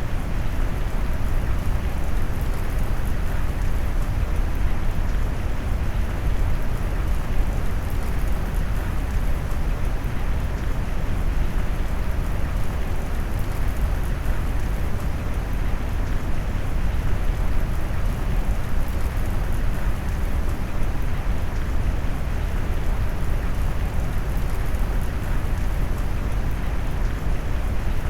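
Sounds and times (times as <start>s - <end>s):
low brown noise rumble: 0.0s - 28.0s.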